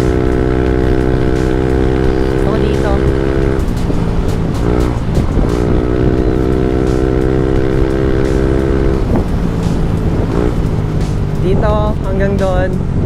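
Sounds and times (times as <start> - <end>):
scooter engine running: 0.0 - 13.0
wind rumble on microphone: 0.0 - 13.0.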